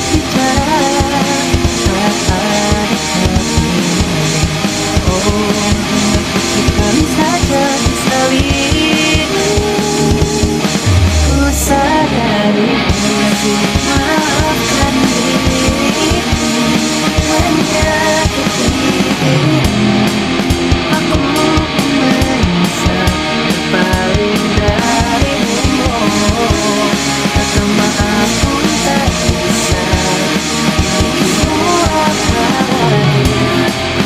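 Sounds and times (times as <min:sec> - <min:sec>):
drum kit beat: 0:00.0 - 0:34.0
electric guitars: 0:00.0 - 0:34.0.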